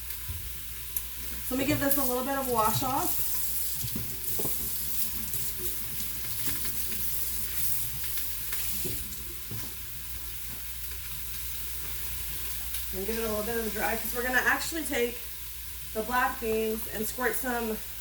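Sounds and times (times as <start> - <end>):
onions sizzling in a pot: 0.0 - 18.0.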